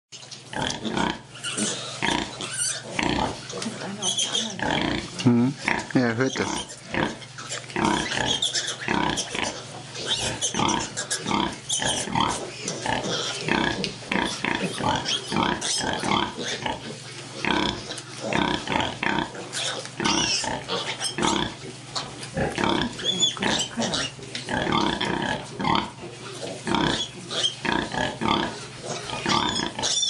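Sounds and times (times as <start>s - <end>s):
piglets squealing: 0.5s - 5.0s, 5.6s - 30.0s
sows grunting: 0.5s - 30.0s.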